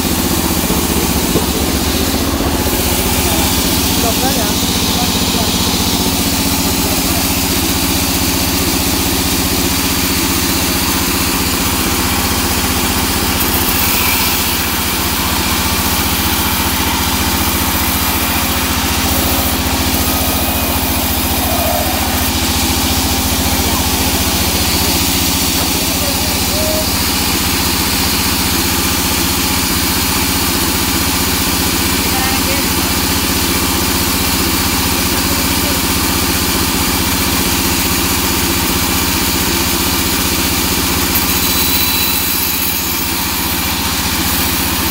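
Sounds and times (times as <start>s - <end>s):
band saw running: 0.0s - 44.9s.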